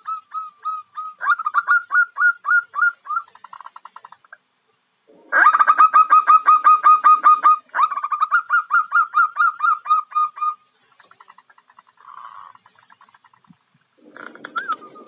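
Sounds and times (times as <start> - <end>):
dove calling in clipped notes: 0.0 - 4.4, 5.1 - 15.0.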